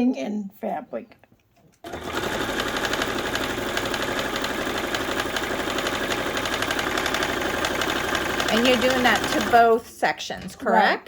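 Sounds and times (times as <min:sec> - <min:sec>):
sewing machine stitching: 0:01.8 - 0:11.0.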